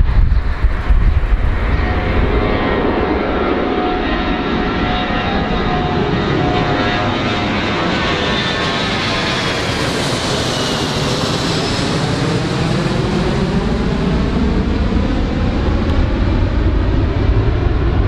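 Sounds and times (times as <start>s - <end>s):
jet engines roaring overhead: 0.0s - 18.0s.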